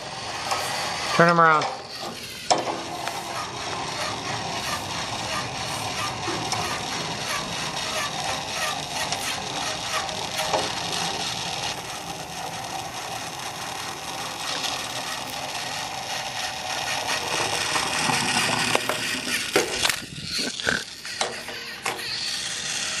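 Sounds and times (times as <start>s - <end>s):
toy train motor whirring: 0.0s - 23.0s
toy train knocks and bumps: 1.4s - 20.0s, 21.1s - 22.2s.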